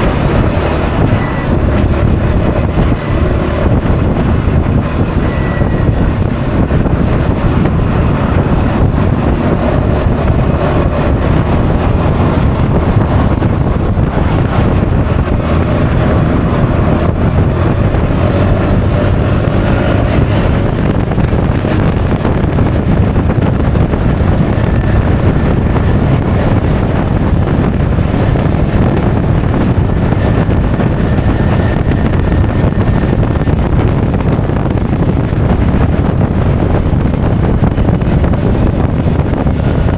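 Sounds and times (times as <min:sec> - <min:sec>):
scooter engine: 0:00.0 - 0:39.9
wind buffeting microphone: 0:00.0 - 0:39.9.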